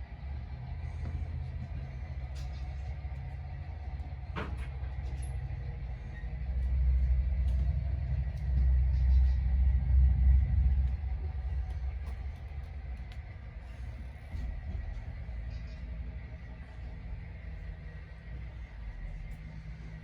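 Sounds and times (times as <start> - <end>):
model trains rumbling: 0.0 - 20.0.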